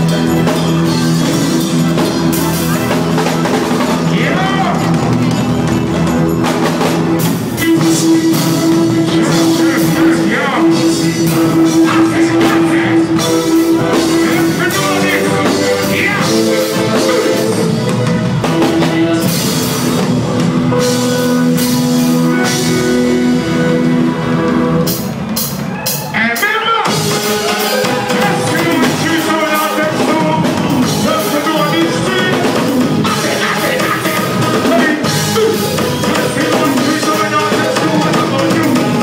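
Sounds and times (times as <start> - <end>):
person singing: 0.0 - 25.0, 25.8 - 39.0
reggae band playing: 0.0 - 39.0.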